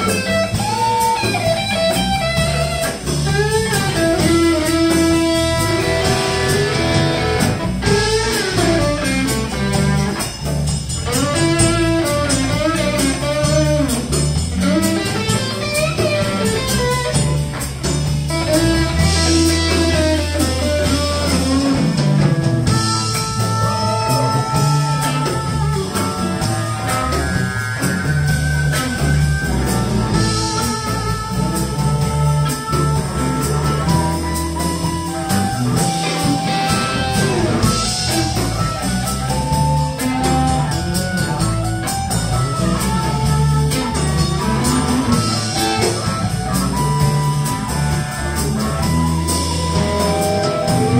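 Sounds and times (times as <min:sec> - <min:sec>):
bass guitar: 0:00.0 - 0:50.9
drum kit: 0:00.0 - 0:50.9
electric guitar lead: 0:00.0 - 0:50.9.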